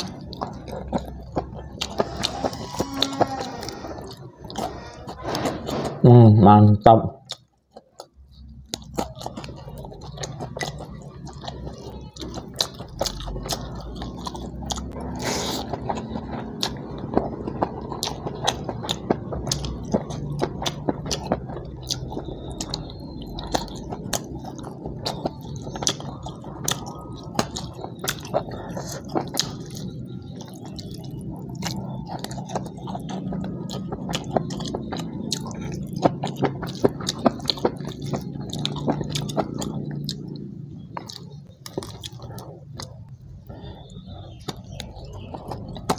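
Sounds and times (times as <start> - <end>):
man chewing food: 0.0 - 6.0, 7.2 - 45.9.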